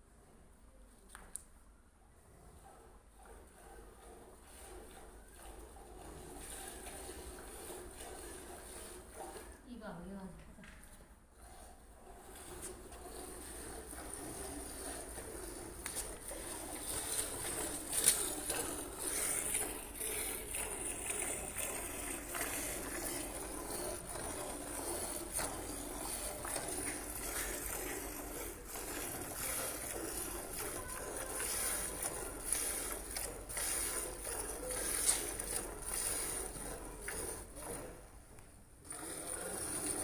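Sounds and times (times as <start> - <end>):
milk squirting into pail: 4.0 - 9.6, 11.4 - 38.0, 38.8 - 40.0.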